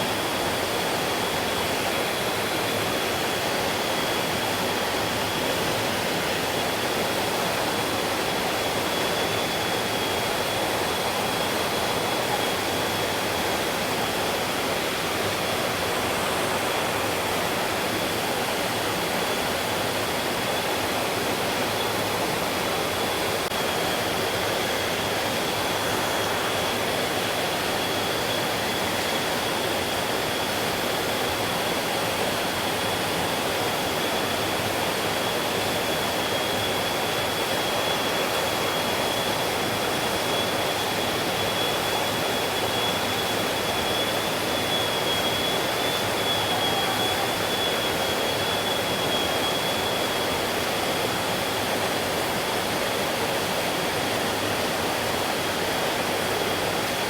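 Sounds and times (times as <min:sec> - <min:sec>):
high-pitched whine: 0:00.0 - 0:57.0.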